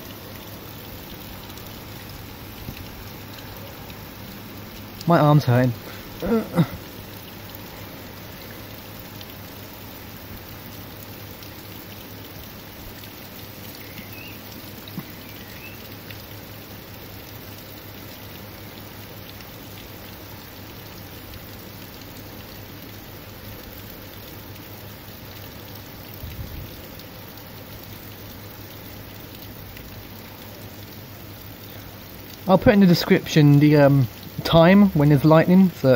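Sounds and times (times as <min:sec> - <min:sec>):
raindrop striking a surface: 0:00.0 - 0:35.9
steady rain falling: 0:00.0 - 0:35.9.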